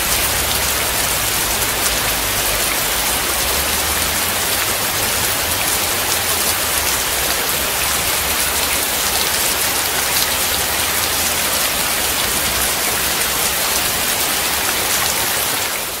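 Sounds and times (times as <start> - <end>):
rain splashing on wet surface: 0.0 - 16.0.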